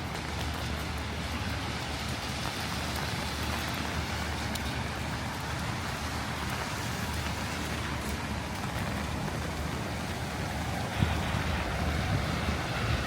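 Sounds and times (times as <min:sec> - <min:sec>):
heavy rain hissing: 0:00.0 - 0:13.0
road traffic rumble: 0:00.0 - 0:13.0.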